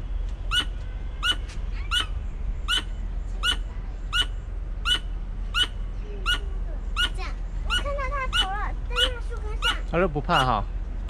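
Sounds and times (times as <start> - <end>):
squirrel harsh chuck calls: 0.5 - 10.6.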